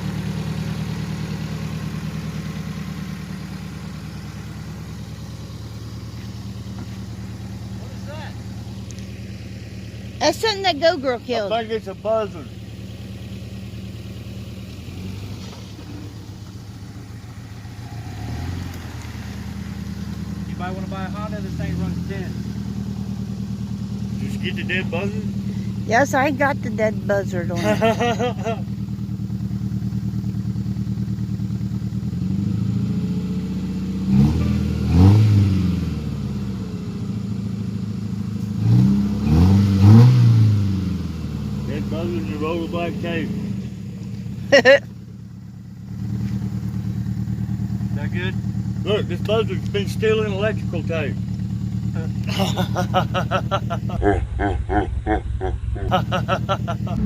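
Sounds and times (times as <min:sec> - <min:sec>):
car engine idling: 0:00.0 - 0:39.2, 0:39.9 - 0:57.0.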